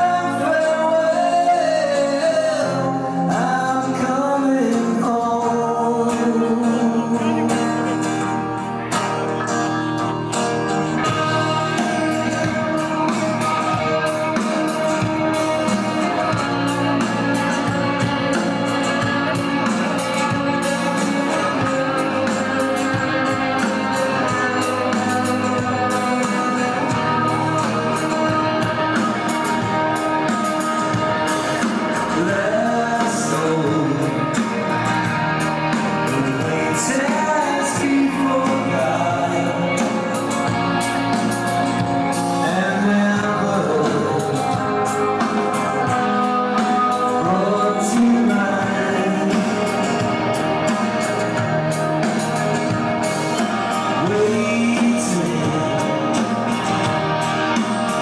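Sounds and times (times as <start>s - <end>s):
man singing: 0.0s - 58.0s
rock band playing live: 0.0s - 58.0s.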